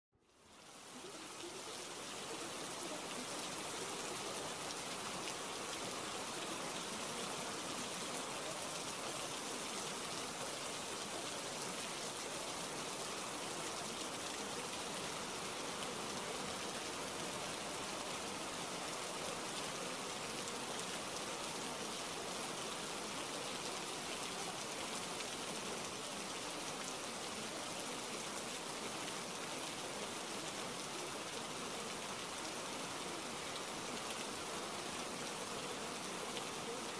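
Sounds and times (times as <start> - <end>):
steady rain: 0.2 - 36.9.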